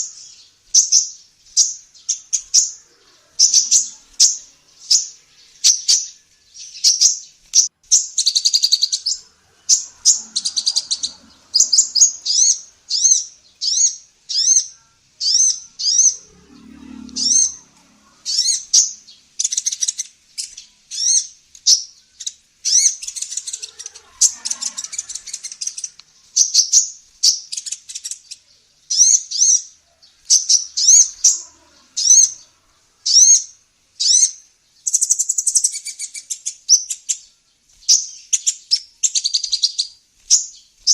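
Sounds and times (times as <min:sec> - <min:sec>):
sunbird singing: 0:00.0 - 0:40.9.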